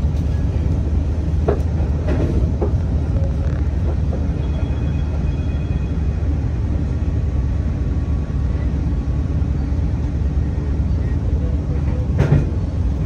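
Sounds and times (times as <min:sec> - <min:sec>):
diesel railcar rumbling: 0:00.0 - 0:13.0.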